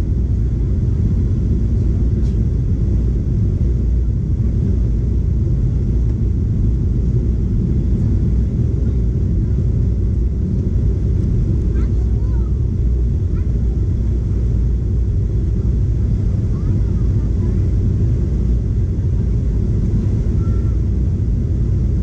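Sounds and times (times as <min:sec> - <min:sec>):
airplane engine rumble in cabin: 0:00.0 - 0:22.0.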